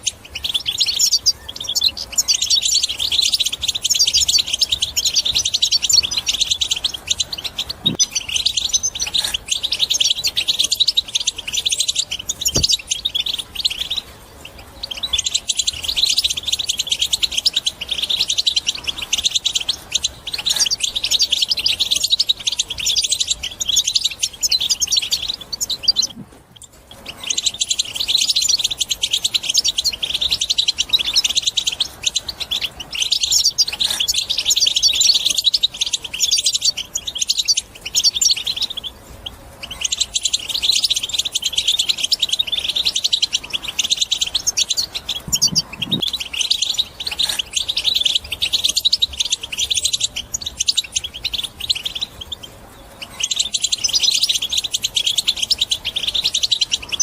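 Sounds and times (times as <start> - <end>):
finch twittering song: 0.0 - 57.0.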